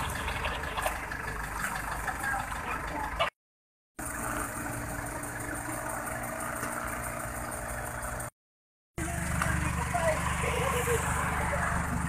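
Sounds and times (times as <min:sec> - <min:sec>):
vehicle engine idling: 0:00.0 - 0:03.4, 0:04.0 - 0:08.3, 0:09.0 - 0:12.0.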